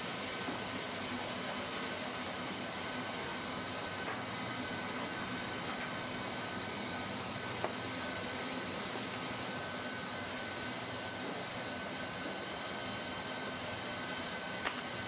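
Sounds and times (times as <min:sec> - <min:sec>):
hot-air blower hissing: 0:00.0 - 0:15.0.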